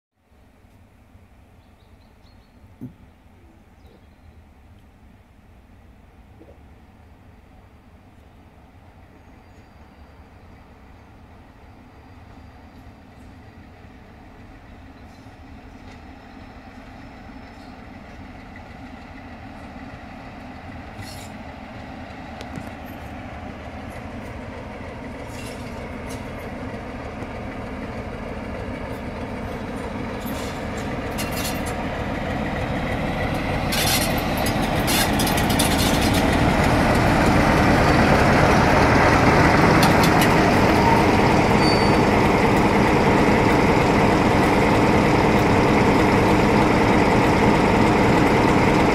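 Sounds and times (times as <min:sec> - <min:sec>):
diesel locomotive engine: 0:00.2 - 0:48.9
train rumble: 0:00.2 - 0:48.9.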